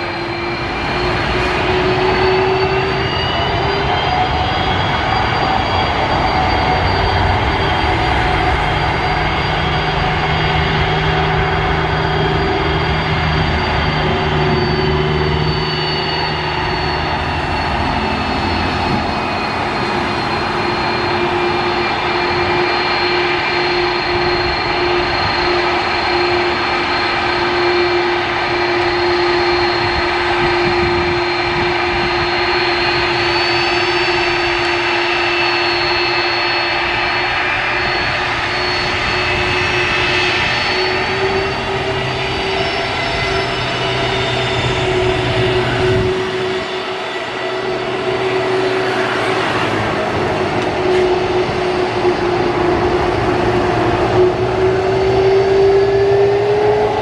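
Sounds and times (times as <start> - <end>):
aircraft turbine engines running: 0.0 - 57.0.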